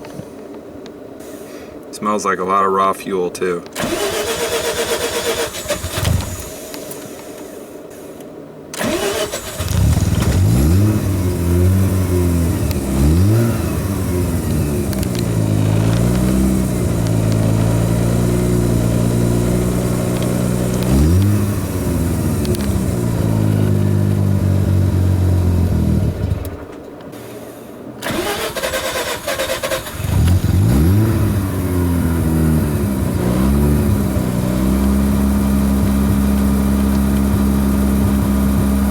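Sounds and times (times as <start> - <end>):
engine starting and running roughly: 3.8 - 38.9.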